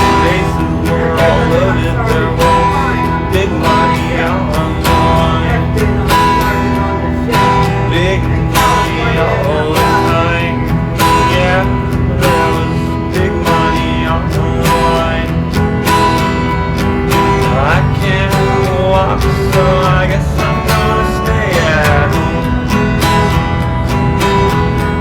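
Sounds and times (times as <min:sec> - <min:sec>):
guitar-led song with drum beat: 0:00.0 - 0:25.0.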